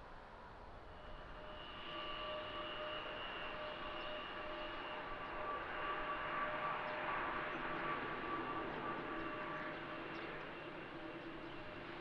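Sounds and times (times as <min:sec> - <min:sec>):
turboprop aircraft droning: 0:00.8 - 0:12.0.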